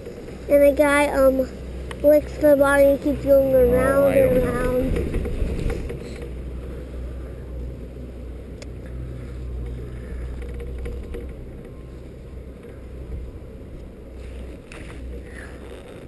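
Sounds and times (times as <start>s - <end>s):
chairlift low rumble: 0.0s - 16.0s.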